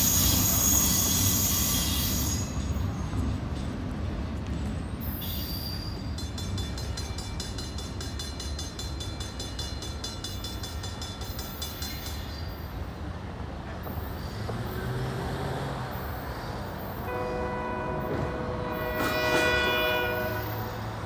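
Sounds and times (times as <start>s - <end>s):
freight cars rumbling on track: 0.0s - 21.0s.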